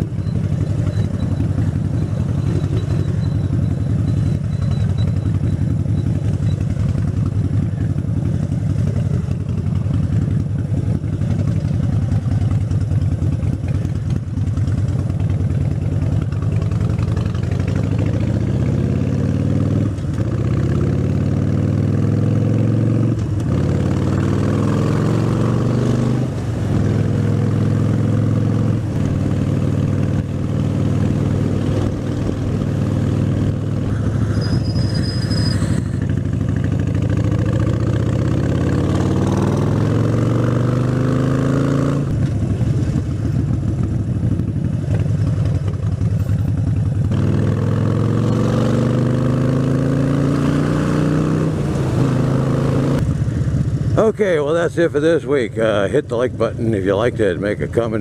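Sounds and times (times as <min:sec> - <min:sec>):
motorcycle engine accelerating: 0:00.0 - 0:54.2.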